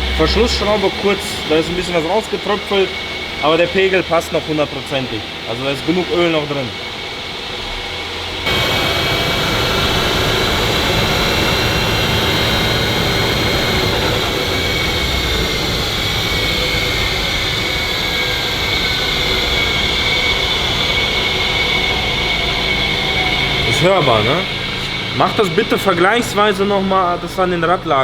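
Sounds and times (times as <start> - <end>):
differential whining: 0.0 - 28.0
low drivetrain rumble: 0.0 - 28.0.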